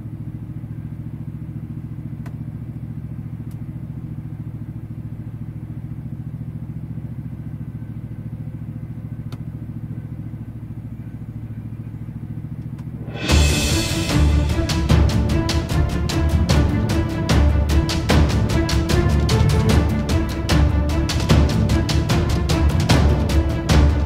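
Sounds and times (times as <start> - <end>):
diesel truck engine idling: 3.0 - 24.0.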